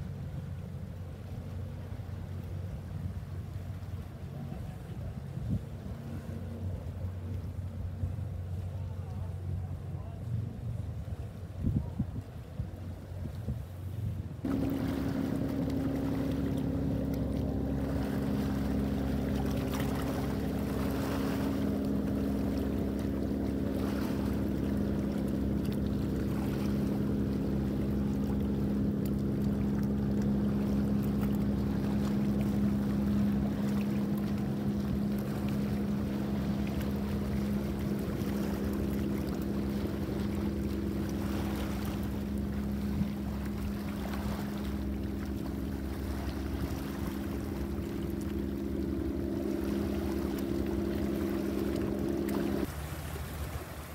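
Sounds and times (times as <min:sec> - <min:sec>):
boat engine running: 0:00.0 - 0:53.9
water noise: 0:00.0 - 0:53.9
wind: 0:00.0 - 0:53.9.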